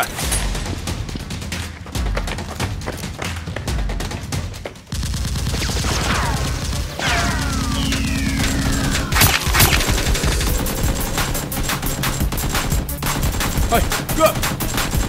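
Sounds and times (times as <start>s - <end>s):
background music: 0.0s - 15.0s
loud bangs: 0.0s - 15.0s
rapid gunfire: 0.0s - 15.0s.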